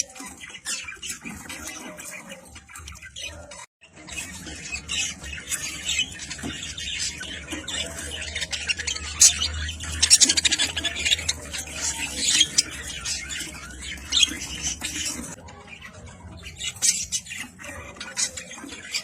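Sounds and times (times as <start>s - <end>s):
budgerigars chattering and squawking: 0.0s - 19.0s.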